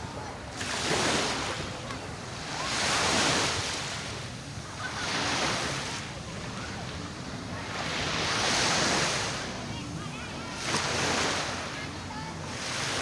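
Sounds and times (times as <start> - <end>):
sea surf breaking on shore: 0.0 - 13.0.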